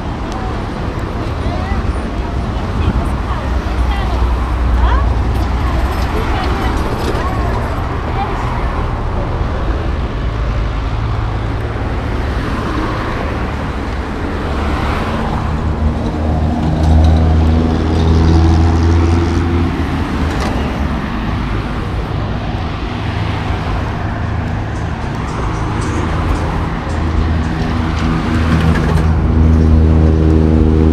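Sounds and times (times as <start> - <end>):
street traffic hum: 0.0 - 30.9
vehicle engine humming: 0.0 - 30.9.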